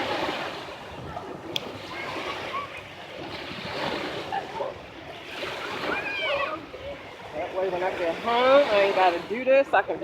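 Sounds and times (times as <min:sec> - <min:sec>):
waves washing on beach: 0:00.0 - 0:10.0.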